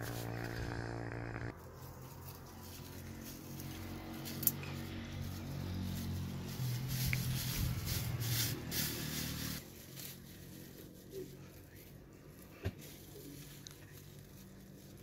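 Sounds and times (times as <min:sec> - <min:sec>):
twigs crackling: 0:00.0 - 0:15.0.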